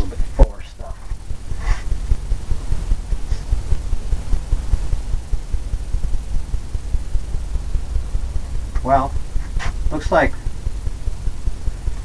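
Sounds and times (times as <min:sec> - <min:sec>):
faint hiss: 0:00.0 - 0:12.0
low uneven rumble: 0:00.0 - 0:12.0.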